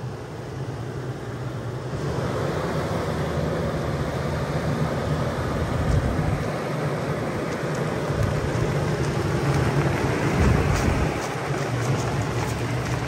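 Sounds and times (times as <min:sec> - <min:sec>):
outdoor noise: 0:00.0 - 0:13.0
vehicle engine idling: 0:00.0 - 0:13.0.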